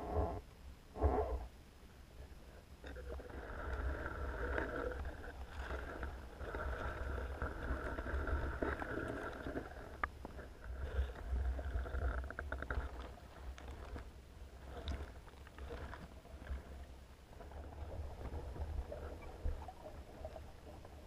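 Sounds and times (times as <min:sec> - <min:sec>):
muffled underwater rumble: 0:00.0 - 0:21.0.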